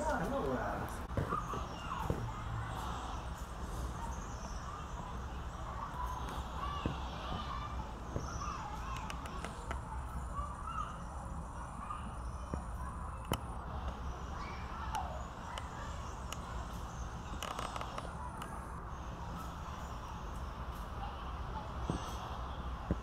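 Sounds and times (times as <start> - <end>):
distant wavering calls: 0.0 - 23.0.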